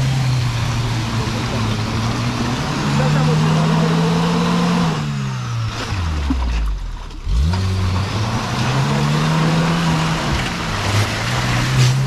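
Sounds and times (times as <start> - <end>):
engine labouring and revving: 0.0 - 12.0.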